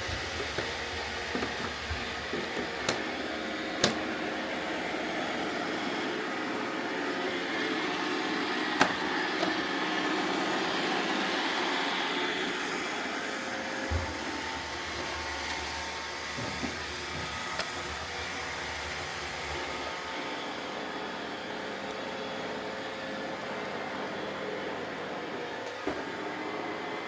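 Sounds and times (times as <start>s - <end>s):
robot vacuum whirring hum: 0.0s - 27.0s.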